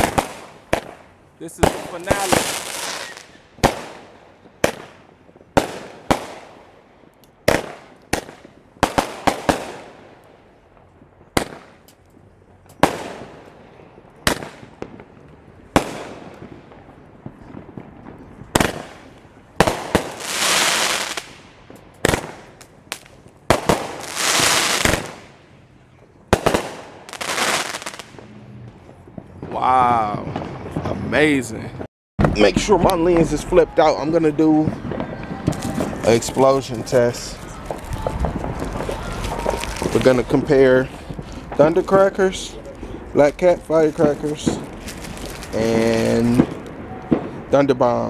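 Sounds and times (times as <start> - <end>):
fireworks bangs: 0.0 - 48.0
longer firework bursts: 0.0 - 48.0.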